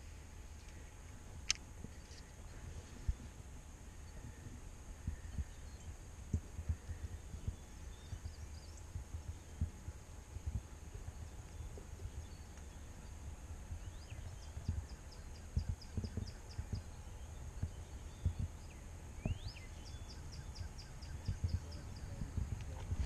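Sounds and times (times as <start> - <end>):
songbird singing: 0.0 - 23.0
microphone thumps and rumble: 0.8 - 23.0.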